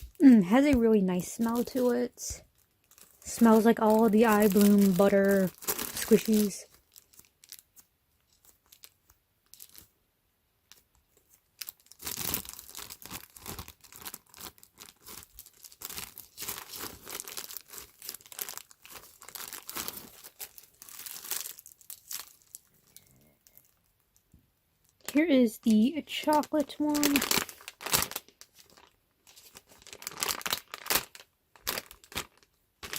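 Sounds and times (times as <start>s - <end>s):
plastic wrapper crinkling and tearing: 0.0s - 9.9s, 10.6s - 32.9s.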